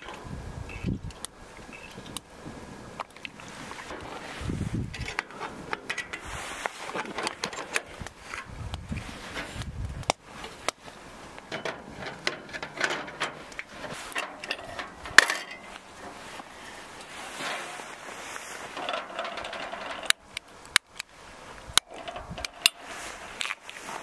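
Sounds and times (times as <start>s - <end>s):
low rumble of wind: 0.0s - 24.0s.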